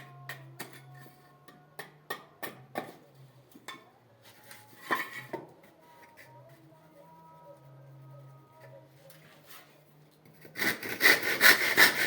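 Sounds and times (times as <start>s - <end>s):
faint low hum: 0.0s - 10.5s.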